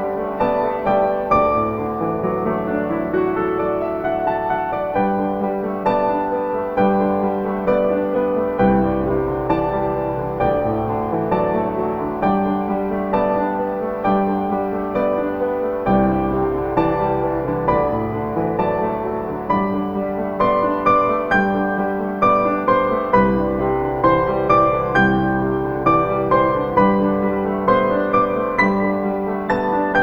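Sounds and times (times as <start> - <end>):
deep piano bass notes: 0.0 - 30.0
slow gentle piano music: 0.0 - 30.0.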